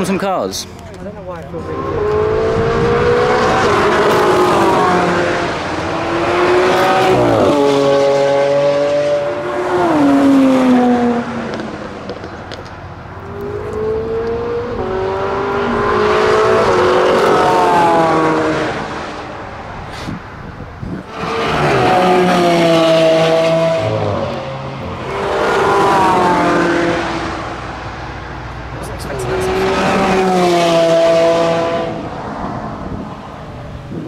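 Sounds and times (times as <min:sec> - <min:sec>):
race cars passing at speed: 0:01.6 - 0:34.0.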